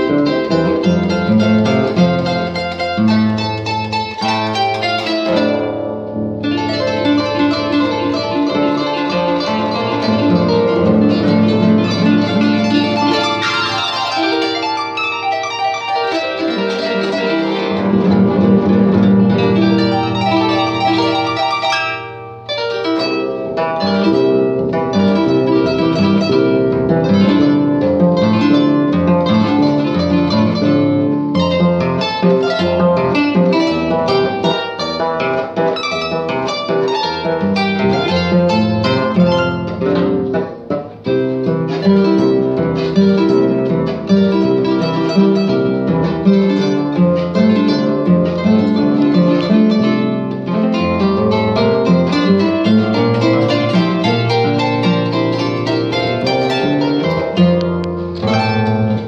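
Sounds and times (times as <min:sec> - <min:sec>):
polka on plucked harp: 0:00.0 - 0:59.0.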